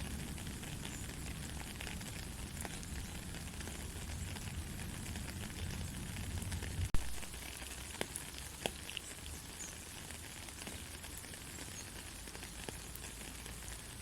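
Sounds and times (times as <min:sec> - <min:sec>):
gentle rain falling: 0:00.0 - 0:14.0.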